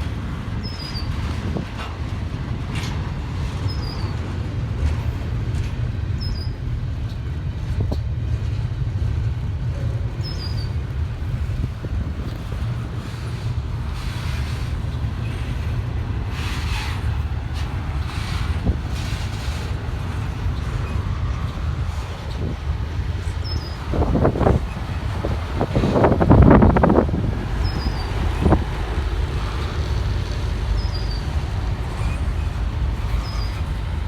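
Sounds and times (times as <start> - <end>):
freight train rumbling past: 0.0 - 34.0.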